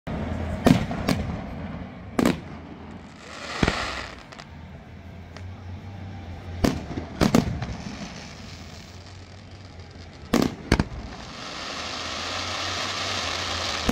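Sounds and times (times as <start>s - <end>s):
fireworks booming bangs: 0.1s - 4.6s, 6.3s - 13.9s
fireworks hissing crackle: 0.2s - 13.9s.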